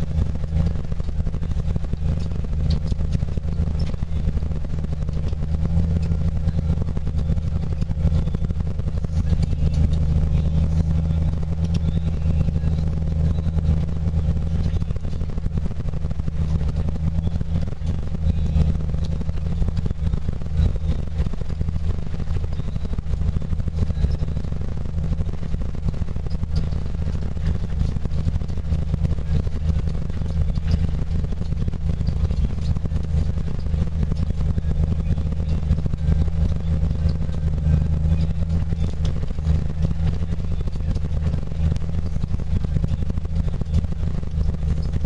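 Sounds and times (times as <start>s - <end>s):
engine droning under load: 0.0s - 45.0s
light rattling: 0.0s - 45.0s.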